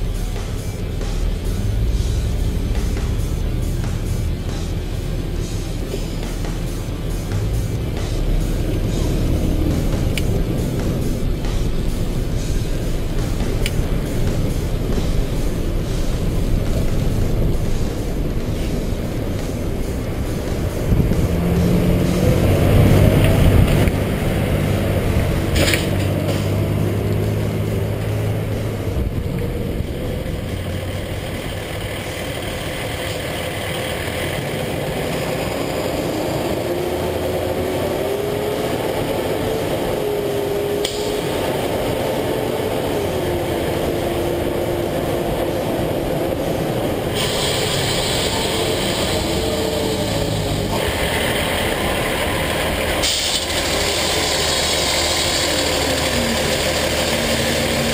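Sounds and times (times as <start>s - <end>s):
truck engine running: 0.0s - 57.9s
tyre and road noise: 0.0s - 57.9s.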